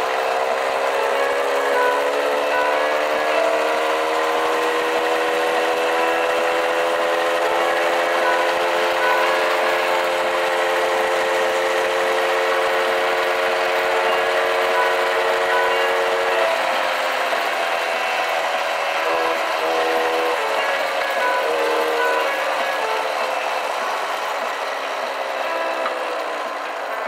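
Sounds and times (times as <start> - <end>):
moped engine running hard: 0.0 - 27.0.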